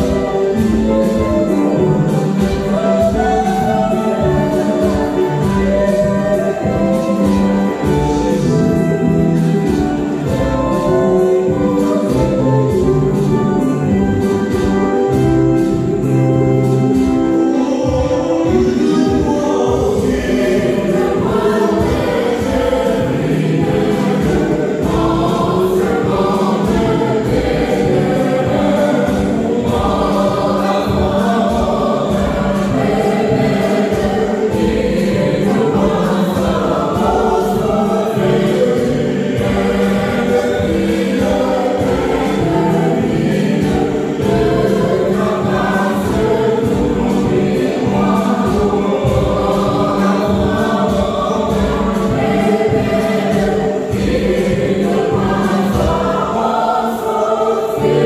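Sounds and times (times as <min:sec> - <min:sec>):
choir singing gospel in harmony: 0:00.0 - 0:58.0
steady low beat: 0:00.0 - 0:58.0.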